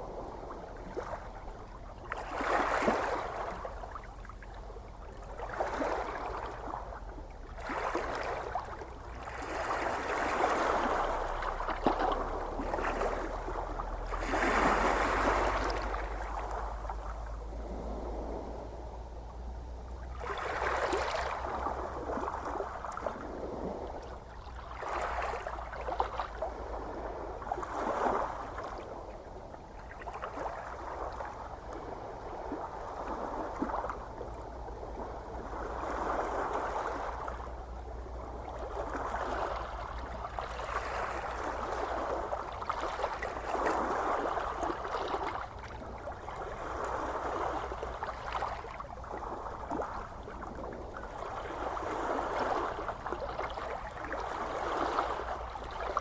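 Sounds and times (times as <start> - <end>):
small waves breaking gently: 0.0 - 56.0.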